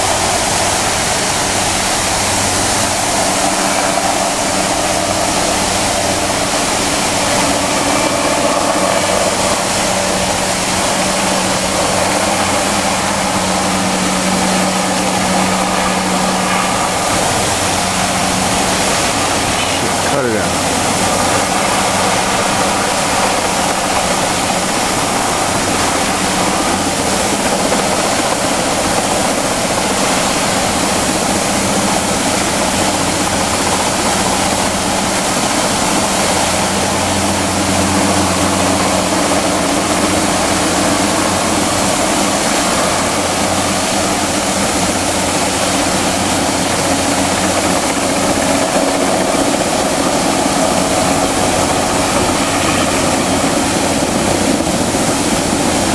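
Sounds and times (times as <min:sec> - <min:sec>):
fountain water jets hissing: 0:00.0 - 0:55.9
helicopter drone overhead: 0:00.0 - 0:55.9.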